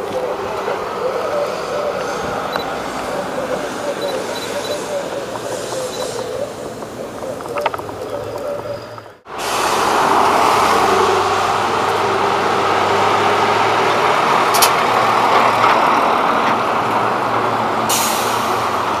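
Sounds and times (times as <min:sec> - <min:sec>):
truck and cars passing: 0:00.0 - 0:19.0.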